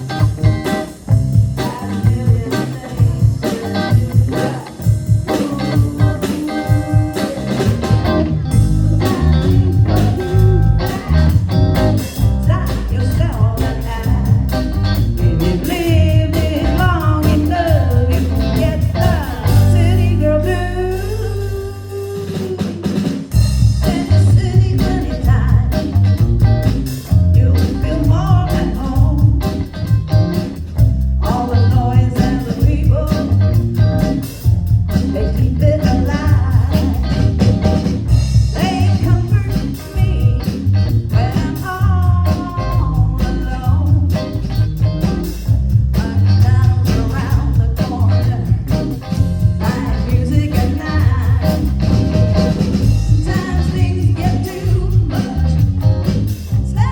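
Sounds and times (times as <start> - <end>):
person singing lead vocal: 0.0 - 30.0, 31.2 - 45.0, 45.7 - 56.9
bass guitar: 0.0 - 56.9
drum kit: 0.0 - 56.9
electric guitar: 0.0 - 56.9.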